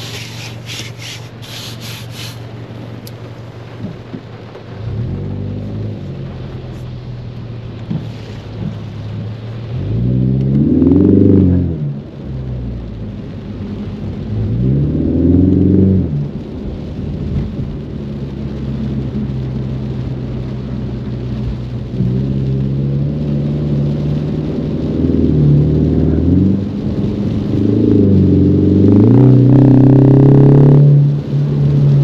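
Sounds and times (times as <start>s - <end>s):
car engine revving: 0.0s - 32.0s
rain and road spray hiss: 0.0s - 32.0s.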